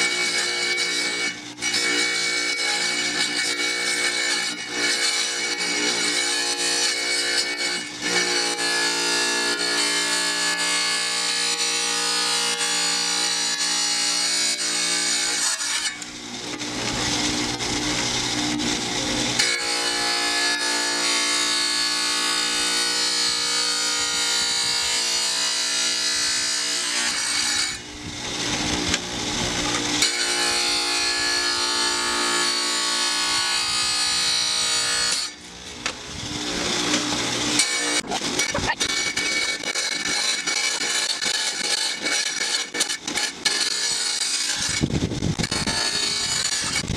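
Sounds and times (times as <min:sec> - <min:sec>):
tile saw grinding glass: 0:00.0 - 0:46.9.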